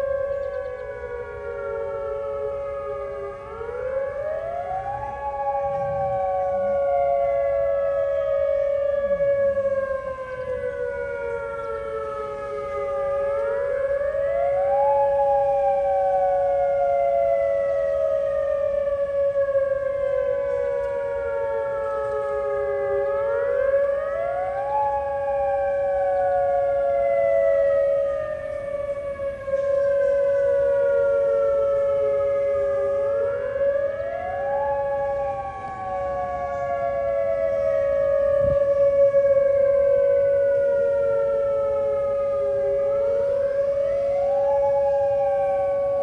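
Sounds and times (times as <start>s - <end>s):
steady siren tone: 0.0s - 46.0s
wailing warning siren: 0.0s - 46.0s.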